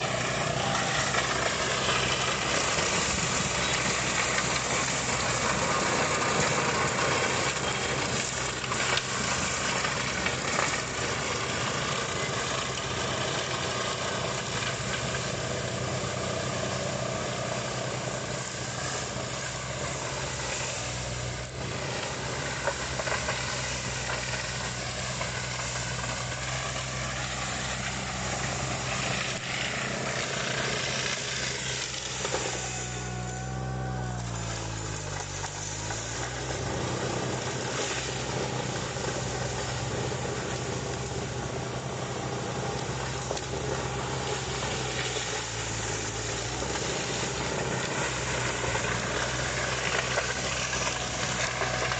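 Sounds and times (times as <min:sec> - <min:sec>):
mulcher engine running under load: 0:00.0 - 0:51.9.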